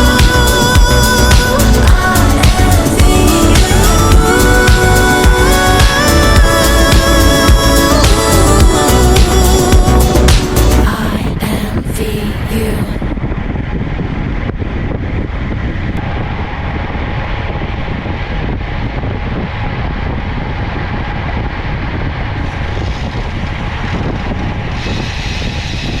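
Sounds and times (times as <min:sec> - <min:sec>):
wind rush on microphone: 0:00.0 - 0:26.0.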